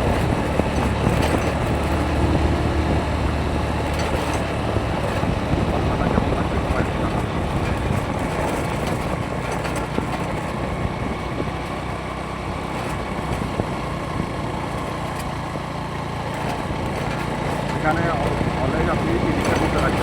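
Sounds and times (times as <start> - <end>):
road noise: 0.0 - 20.0
vehicle engine running: 0.0 - 20.0.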